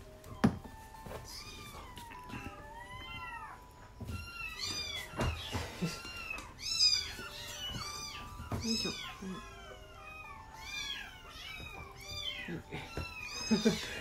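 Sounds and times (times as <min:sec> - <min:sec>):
kittens mewing: 0:01.3 - 0:14.0.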